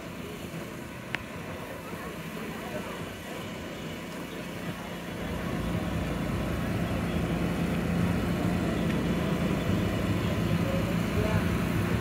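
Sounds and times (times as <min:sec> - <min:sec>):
crowd chatter: 0:00.0 - 0:12.0
engine hum: 0:00.0 - 0:12.0.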